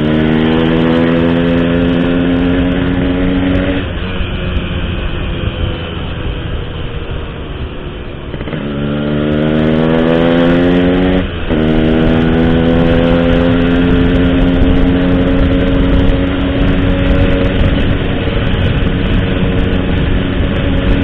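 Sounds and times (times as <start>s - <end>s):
motorcycle engine cruising: 0.0s - 21.0s
wind rumble: 0.0s - 21.0s.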